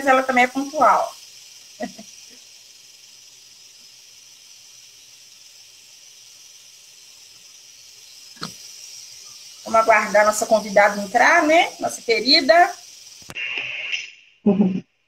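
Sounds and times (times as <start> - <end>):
high-pitched microphone hiss: 0.0 - 15.0.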